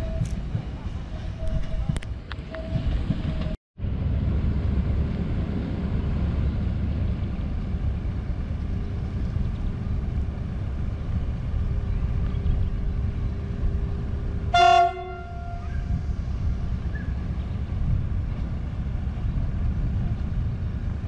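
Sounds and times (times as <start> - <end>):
diesel locomotive rumbling: 0.0 - 21.0.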